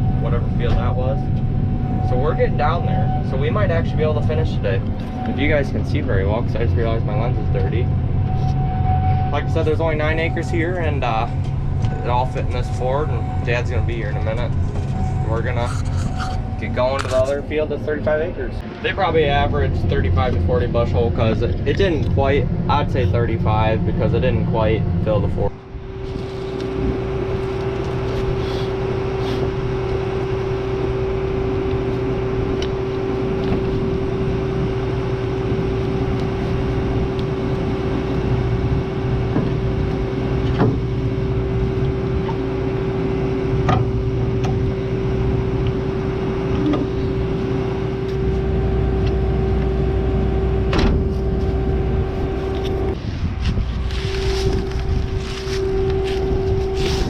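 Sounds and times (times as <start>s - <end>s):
constant hum: 0.0s - 57.0s
farm vehicle engine running: 0.0s - 57.0s.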